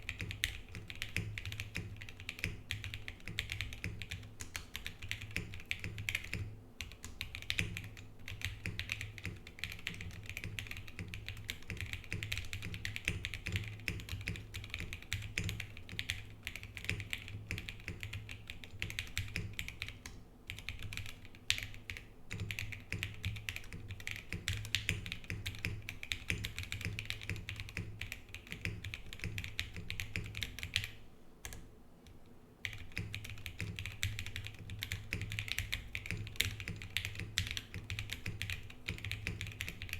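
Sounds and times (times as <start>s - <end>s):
mechanical keyboard typing: 0.0s - 31.6s, 32.6s - 39.9s.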